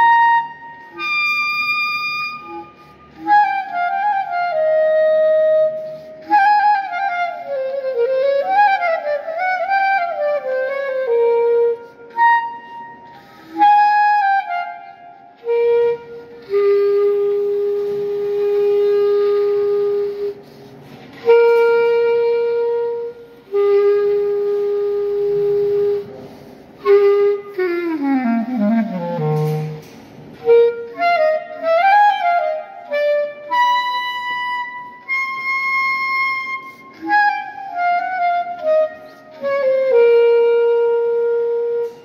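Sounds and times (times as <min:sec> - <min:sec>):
solo clarinet: 0:00.0 - 0:42.0.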